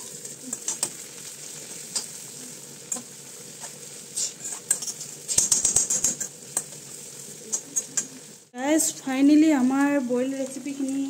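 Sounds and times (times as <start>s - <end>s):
onion and fish frying in oil: 0.0s - 11.0s.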